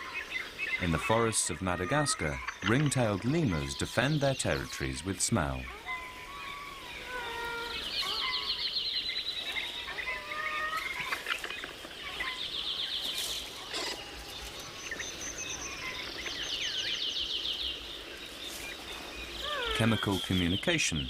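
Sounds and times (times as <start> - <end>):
birds whistling and chirping: 0.0 - 21.0.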